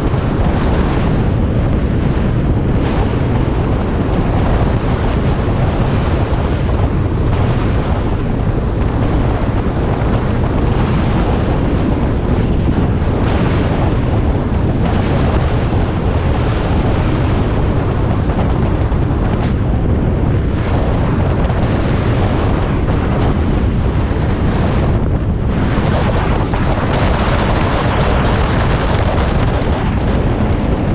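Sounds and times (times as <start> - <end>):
motorcycle engine drone: 0.0 - 30.9
wind buffeting microphone: 0.0 - 30.9.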